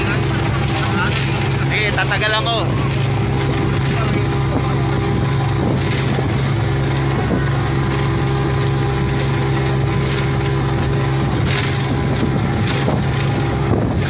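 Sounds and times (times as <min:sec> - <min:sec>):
motorboat engine droning: 0:00.0 - 0:14.0
splash: 0:00.0 - 0:14.0
wind and water rushing: 0:00.0 - 0:14.0.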